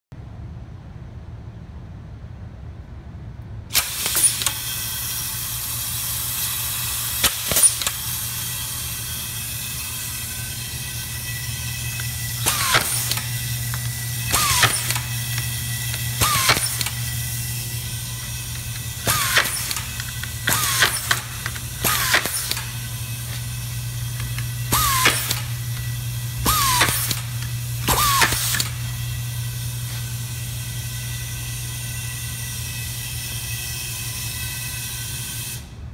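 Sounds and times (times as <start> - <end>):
screwdriver bursts with falling whine: 3.7 - 35.8
screwdriving machine humming: 3.7 - 35.8.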